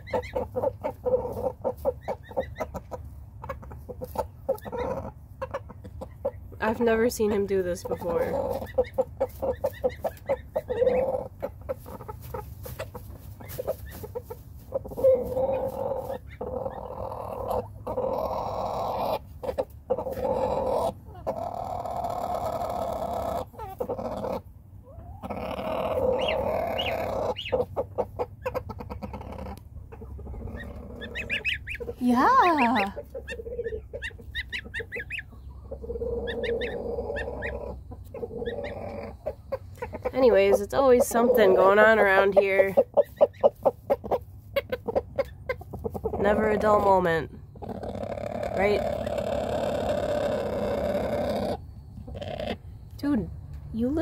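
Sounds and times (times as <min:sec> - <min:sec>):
rooster clucking: 0:00.0 - 0:52.8
goslings peeping: 0:00.0 - 0:54.0
lower fowl calls: 0:07.8 - 0:52.8.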